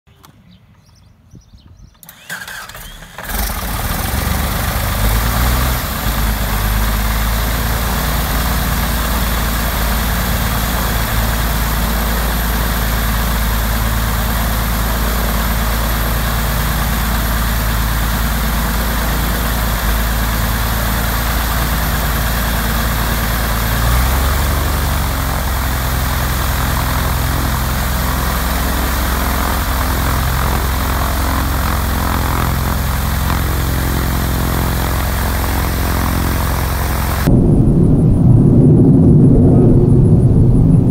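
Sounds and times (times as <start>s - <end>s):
aircraft engine starting and running: 1.7s - 40.9s.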